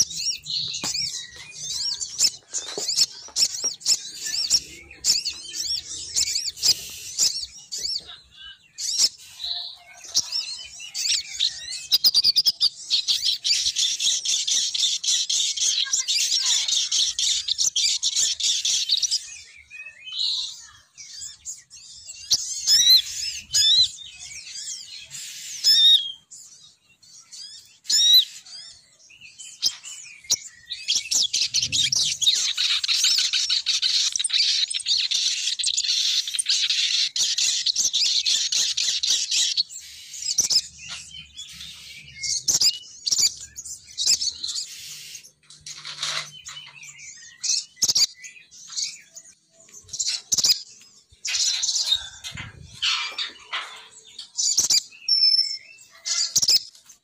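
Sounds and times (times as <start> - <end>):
bird chirps and trills: 0.0 - 57.0.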